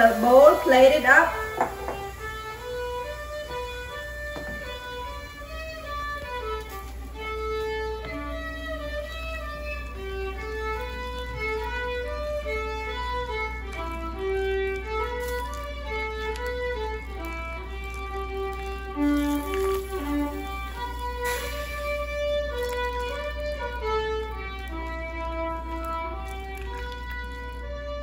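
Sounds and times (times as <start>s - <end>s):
violin melody: 0.0s - 28.0s.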